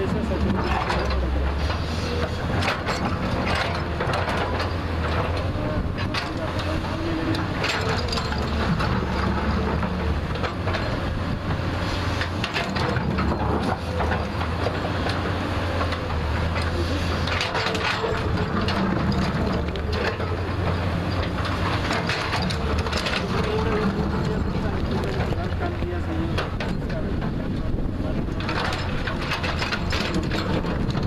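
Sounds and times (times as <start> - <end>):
soil and stone crunching: 0.0 - 26.6
diesel engine running under load: 0.0 - 31.0.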